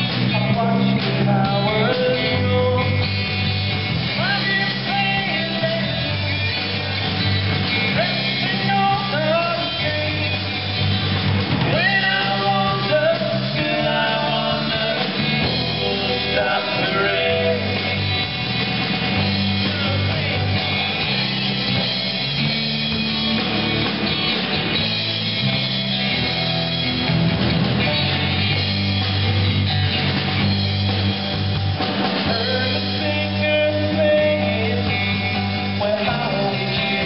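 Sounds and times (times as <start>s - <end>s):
rock band playing live: 0.0s - 37.0s
steady bass line: 0.0s - 37.0s.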